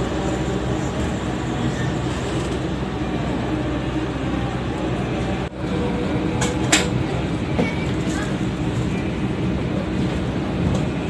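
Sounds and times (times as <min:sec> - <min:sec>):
train coach hum and rumble: 0:00.0 - 0:11.0.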